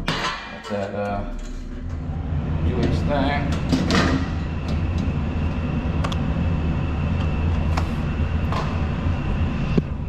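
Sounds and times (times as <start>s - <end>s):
furnace humming: 0.0s - 10.0s.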